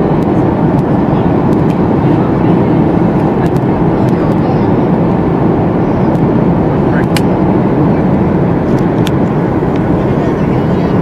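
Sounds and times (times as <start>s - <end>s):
airplane cabin engine noise: 0.0s - 11.0s.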